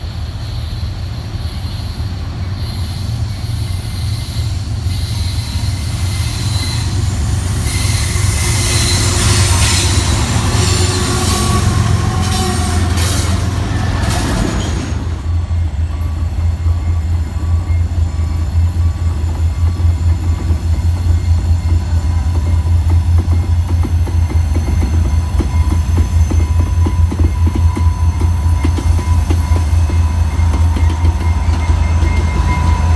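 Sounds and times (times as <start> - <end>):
freight train rumbling past: 0.0 - 32.9
steel wheels squealing: 0.0 - 32.9.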